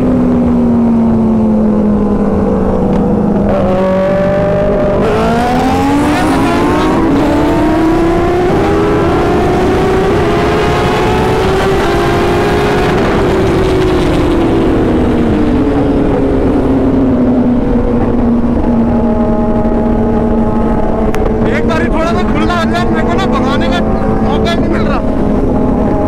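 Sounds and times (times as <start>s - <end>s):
motorcycle engine running: 0.0s - 26.0s
wind rush on microphone: 0.0s - 26.0s.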